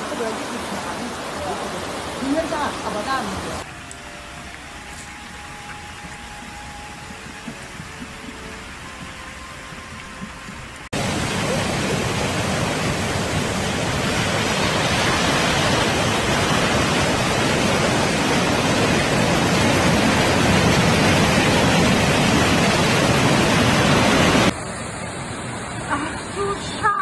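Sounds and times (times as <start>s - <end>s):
floodwater rushing over a wall: 0.0s - 24.8s.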